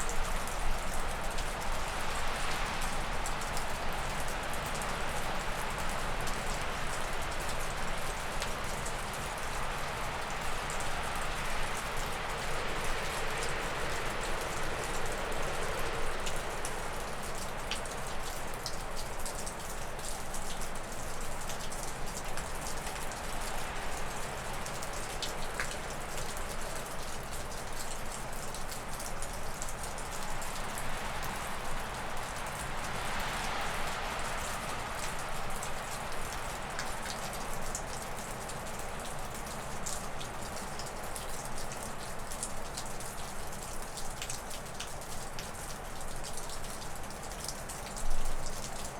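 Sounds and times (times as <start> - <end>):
water dripping off a roof: 0.0 - 48.9.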